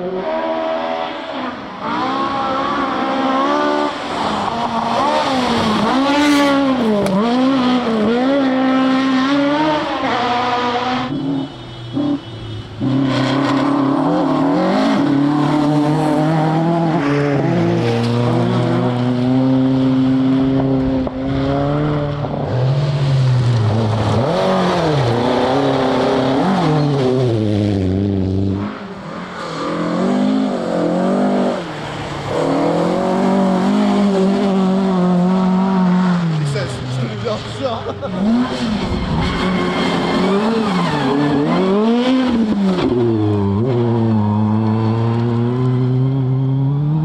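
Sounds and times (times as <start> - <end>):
rally car engines revving: 0.0 - 47.0.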